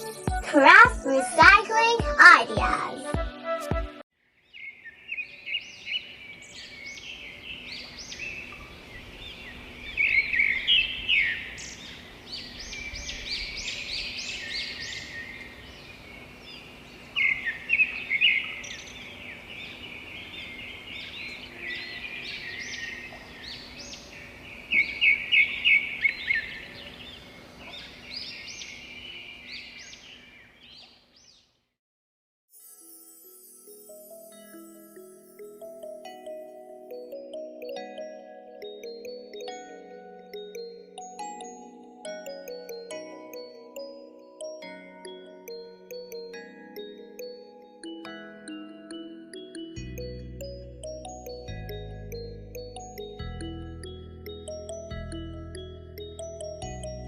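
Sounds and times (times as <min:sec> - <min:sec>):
songbirds chirping and singing: 0:04.4 - 0:31.5, 0:35.2 - 0:57.0.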